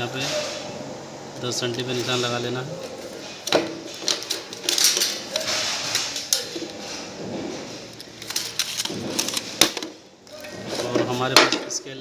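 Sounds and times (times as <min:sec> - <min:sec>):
sheet metal and tools clicking: 0:01.7 - 0:11.8.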